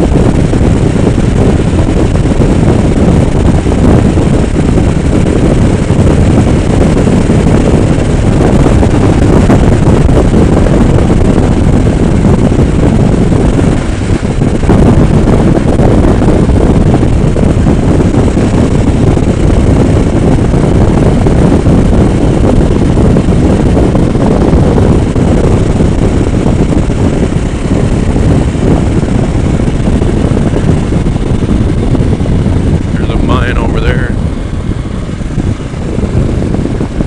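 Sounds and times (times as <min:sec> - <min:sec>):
motorcycle engine: 0:00.0 - 0:37.0
road noise: 0:00.0 - 0:37.0
wind buffeting microphone: 0:00.0 - 0:37.0.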